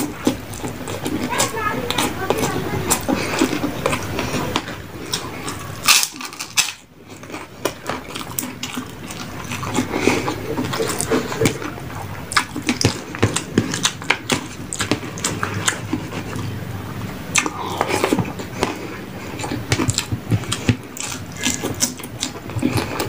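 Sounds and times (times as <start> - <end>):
wet chewing with crunches: 0.0 - 23.0.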